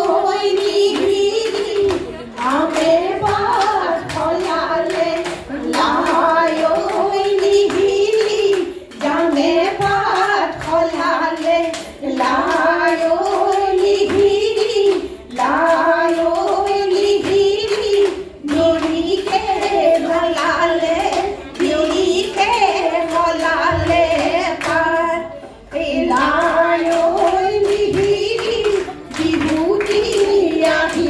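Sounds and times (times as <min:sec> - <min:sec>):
rhythmic hand clapping: 0:00.0 - 0:31.0
women singing through microphones: 0:00.0 - 0:31.0.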